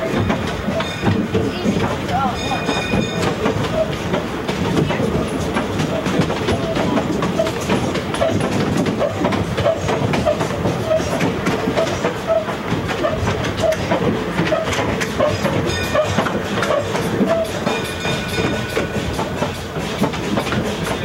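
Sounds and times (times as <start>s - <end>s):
rhythmic track clicking: 0.0s - 21.0s
train car rumbling on track: 0.0s - 21.0s.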